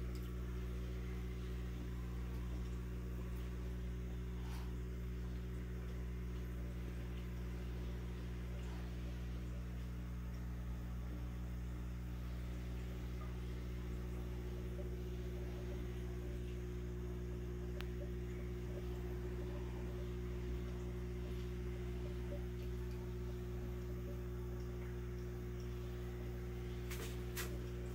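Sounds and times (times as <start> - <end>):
aquarium pump hum: 0.0 - 27.9.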